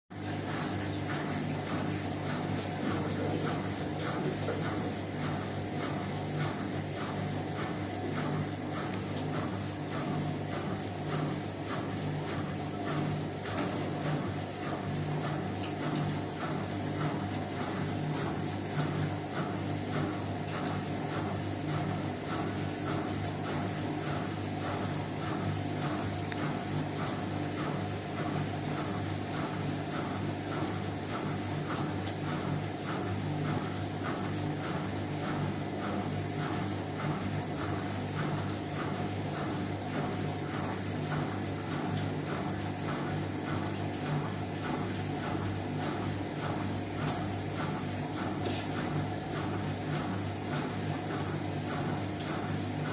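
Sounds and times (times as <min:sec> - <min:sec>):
washing machine motor hum: 0:00.1 - 0:52.9
water sloshing in drum: 0:00.1 - 0:52.9.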